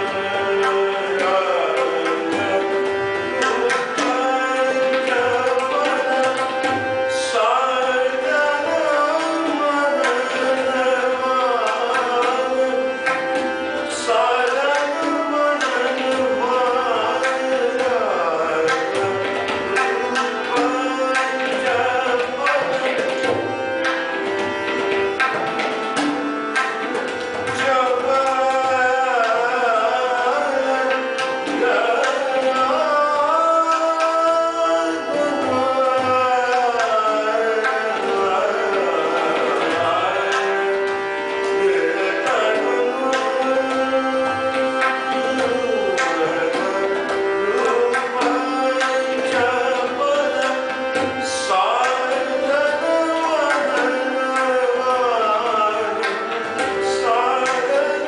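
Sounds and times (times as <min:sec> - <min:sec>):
person singing: 0:00.0 - 0:23.8, 0:27.5 - 0:58.0
harmonium playing: 0:00.0 - 0:58.0
tabla strokes: 0:00.0 - 0:58.0.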